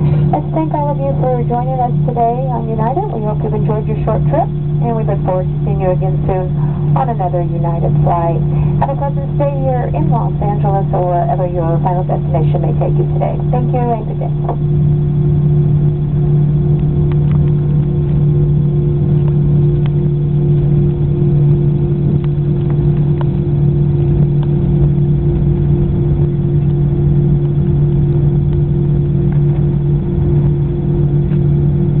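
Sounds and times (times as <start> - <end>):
jet engines idling hum: 0.0 - 32.0.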